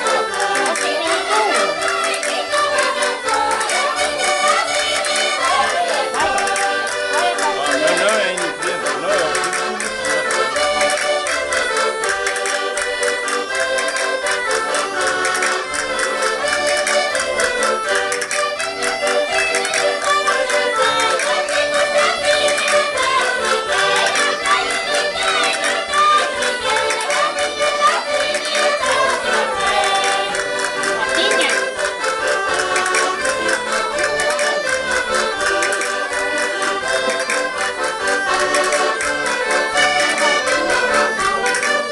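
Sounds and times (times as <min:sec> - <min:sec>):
accordion folk tune: 0:00.0 - 0:41.9.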